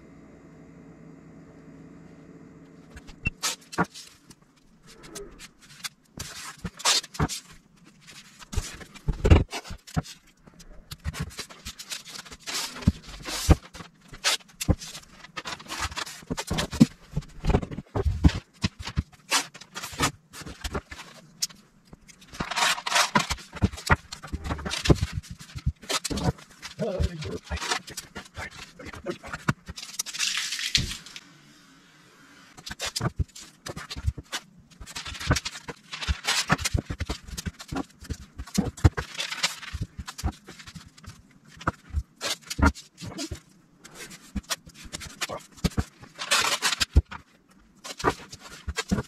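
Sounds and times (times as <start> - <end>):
steady low hum: 0.0 - 49.0
clicks knocks and scrapes: 2.9 - 31.2, 32.6 - 49.0.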